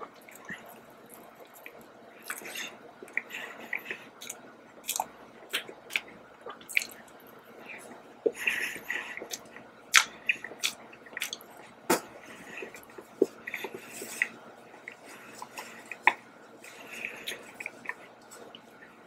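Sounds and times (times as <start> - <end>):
chewing with lip smacks: 0.1 - 19.0.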